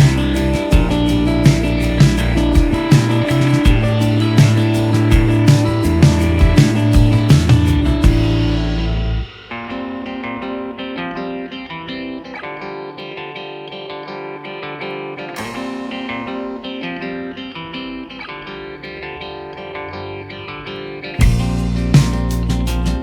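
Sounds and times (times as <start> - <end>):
plucked guitar notes: 0.0 - 23.0.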